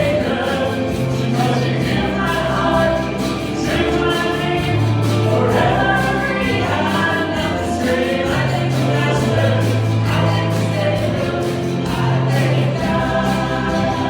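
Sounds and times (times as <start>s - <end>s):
choir singing gospel: 0.0s - 14.0s
held bass notes: 0.0s - 14.0s
instrumental accompaniment: 0.0s - 14.0s.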